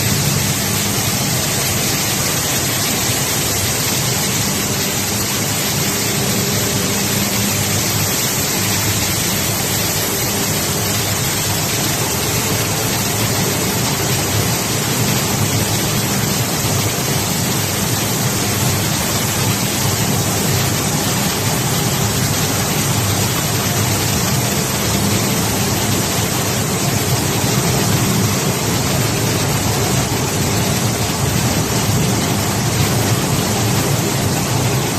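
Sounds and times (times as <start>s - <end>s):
flour milling machinery roaring: 0.0s - 34.9s.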